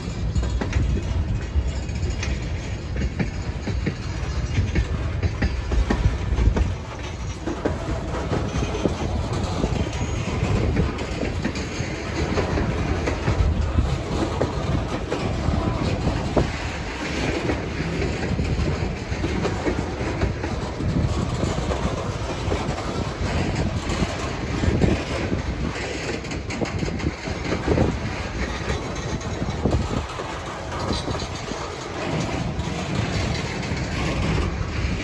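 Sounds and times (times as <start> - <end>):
steel wheels rumbling on rail: 0.0 - 35.0
wheels clicking over rail joints: 0.0 - 35.0.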